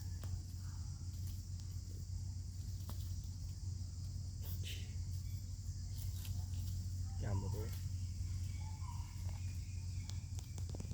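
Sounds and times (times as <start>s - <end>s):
high insect drone: 0.0s - 10.9s
low steady hum: 0.0s - 10.9s.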